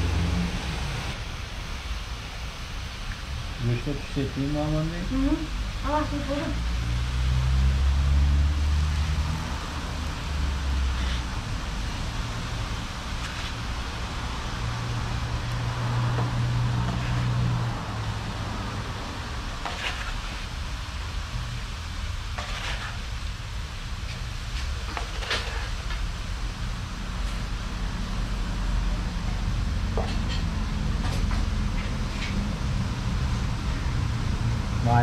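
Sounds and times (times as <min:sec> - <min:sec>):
faint sizzling in a pot: 0:00.0 - 0:35.0.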